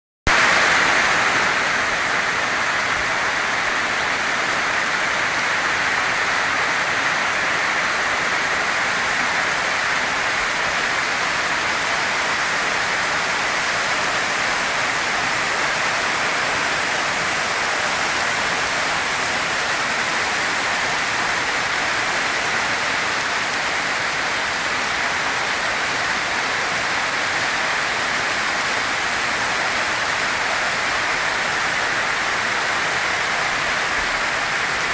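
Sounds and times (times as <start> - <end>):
heavy rain pouring: 0.3 - 34.9.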